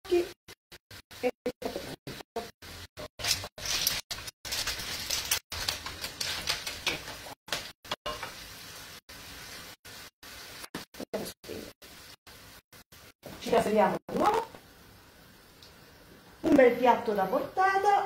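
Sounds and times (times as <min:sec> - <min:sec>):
frying pan sizzling: 0:00.1 - 0:18.0.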